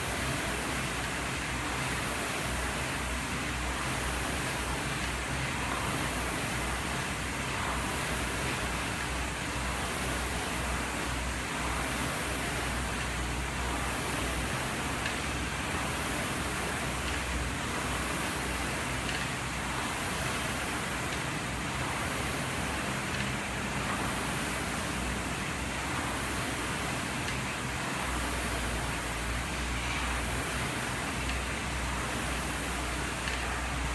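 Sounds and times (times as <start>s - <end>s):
rowing machine fan whooshing: 0.0s - 33.9s.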